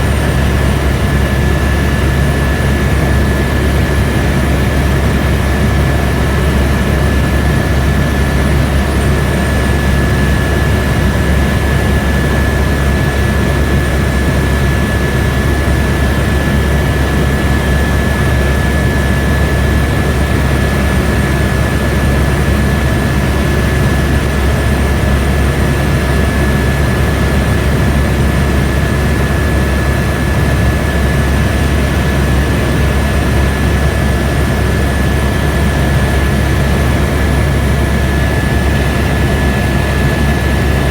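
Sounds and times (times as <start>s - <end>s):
helicopter cabin drone: 0.0s - 40.9s
high turbine whine: 0.0s - 40.9s.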